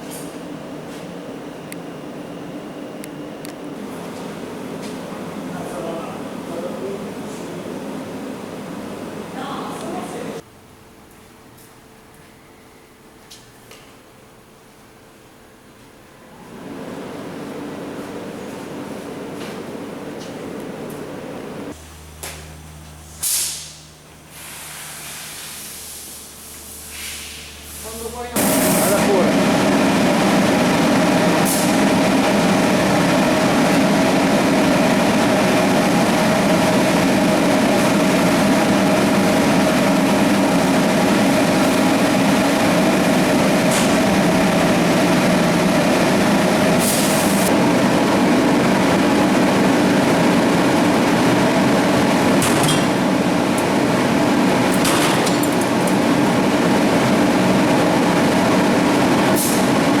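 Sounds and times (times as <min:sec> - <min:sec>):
machine droning hum: 0:00.0 - 0:11.2, 0:14.0 - 1:00.0.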